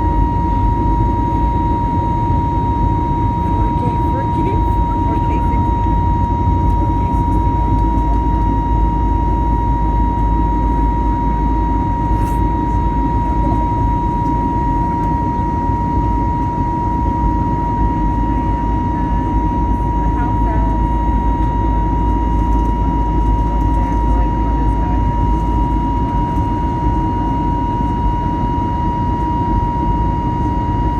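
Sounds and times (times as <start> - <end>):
aircraft cabin rumble: 0.0 - 30.9.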